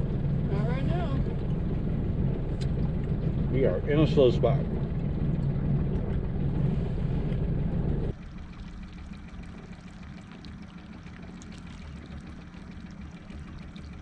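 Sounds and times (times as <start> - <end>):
outboard motor droning: 0.0 - 14.0
water splashing along hull: 0.0 - 14.0.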